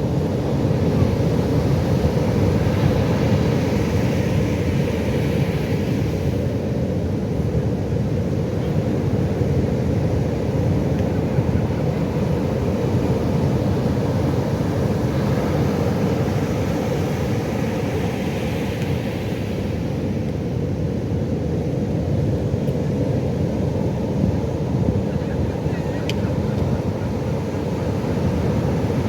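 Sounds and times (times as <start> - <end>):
waves rumbling: 0.0 - 29.0.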